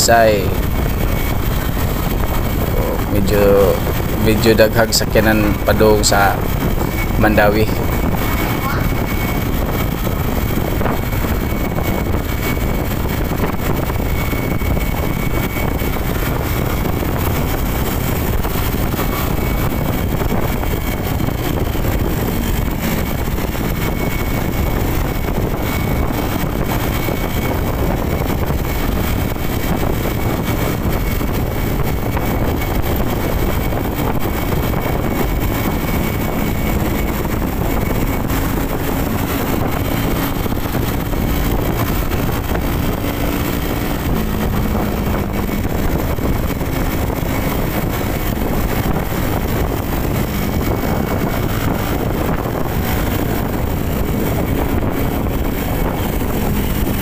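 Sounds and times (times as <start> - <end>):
faint high whine: 0.0 - 57.0
motorcycle engine running: 0.0 - 57.0
wind and road noise: 0.0 - 57.0.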